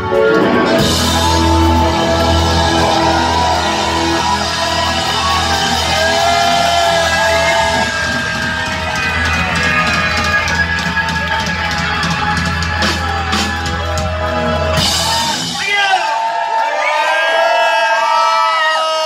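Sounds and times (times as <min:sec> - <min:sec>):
rock band playing loudly: 0:00.0 - 0:16.5
crowd voices: 0:00.0 - 0:19.0.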